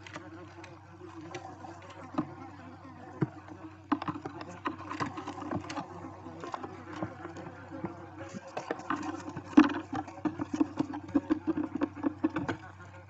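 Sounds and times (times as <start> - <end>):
owls scratching and rustling: 0.0 - 13.0.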